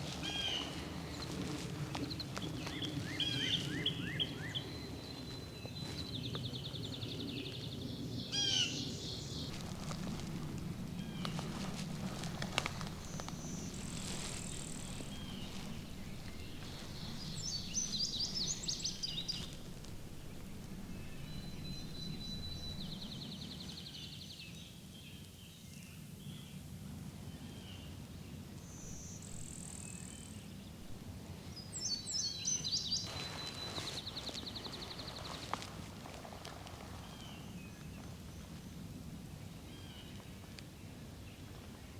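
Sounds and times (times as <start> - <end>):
low background rumble: 0.0 - 41.9
songbirds singing: 0.0 - 41.9.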